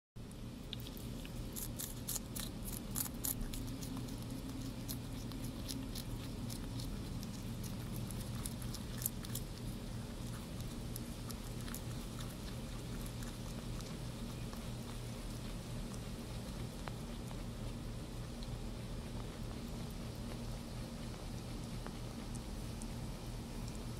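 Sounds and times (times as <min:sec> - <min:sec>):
rabbit chewing crisp lettuce: 0:00.2 - 0:23.9
steady low hum: 0:00.2 - 0:23.9.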